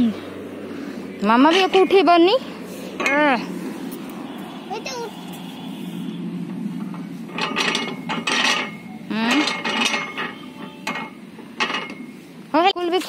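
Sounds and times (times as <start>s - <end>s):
exercise machine creaking and grinding: 1.2s - 13.0s.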